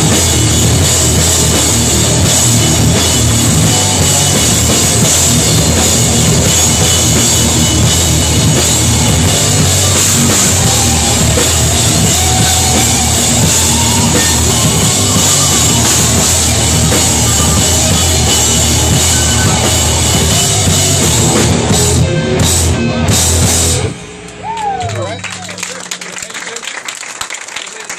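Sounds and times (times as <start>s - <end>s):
pounding drum kit and cymbals: 0.0s - 24.9s
hardcore band playing live: 0.0s - 26.4s.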